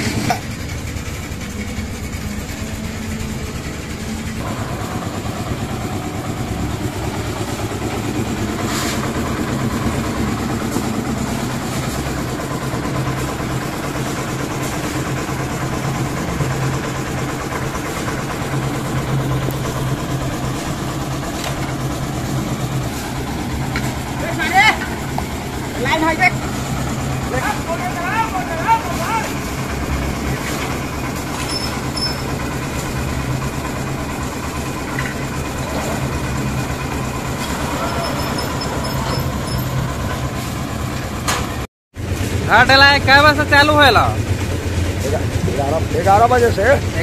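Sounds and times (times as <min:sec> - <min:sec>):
concrete mixer engine running: 0:00.0 - 0:47.0.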